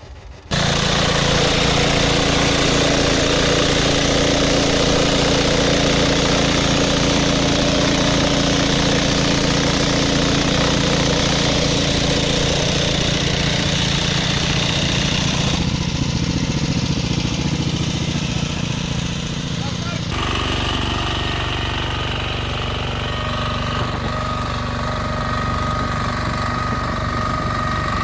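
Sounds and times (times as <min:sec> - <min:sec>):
small tractor engine running: 0:00.0 - 0:28.0.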